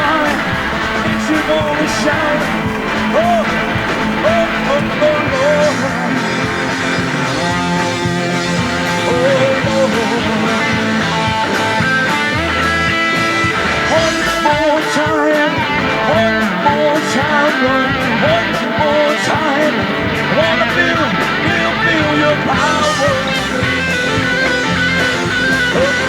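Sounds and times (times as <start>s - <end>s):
band music with guitar: 0.0s - 26.0s
guitar lead melody with bent notes: 0.0s - 26.0s.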